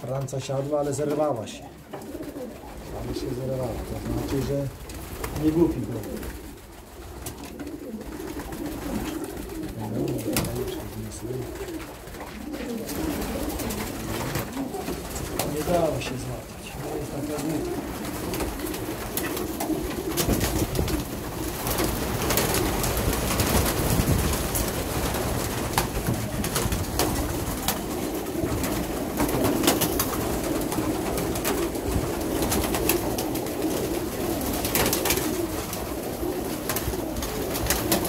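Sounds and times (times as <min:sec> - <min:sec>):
pigeons cooing: 0:00.0 - 0:38.0
wings fluttering: 0:00.0 - 0:38.0.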